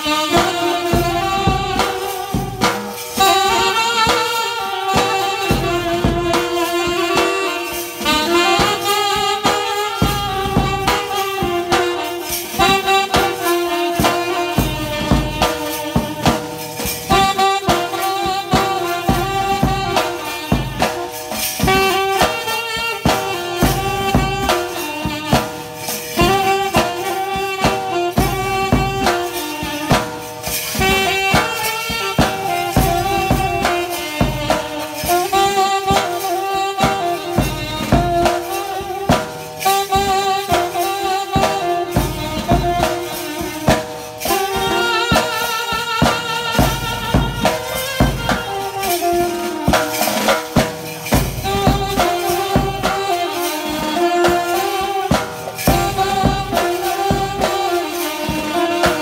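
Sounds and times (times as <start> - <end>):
drums struck with sticks: 0.0 - 59.0
saxophones playing a melody: 0.0 - 59.0.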